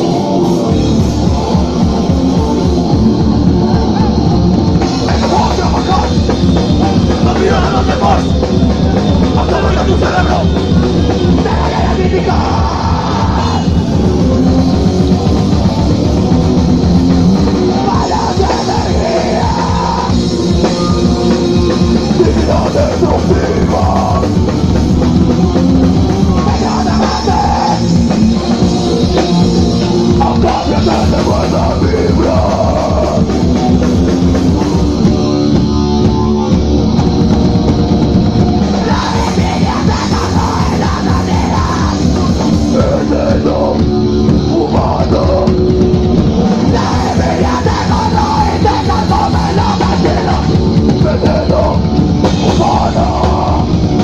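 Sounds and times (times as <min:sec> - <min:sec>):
distorted electric guitar: 0:00.0 - 0:54.0
fast dense drumming: 0:00.0 - 0:54.0
vocals: 0:00.0 - 0:54.0.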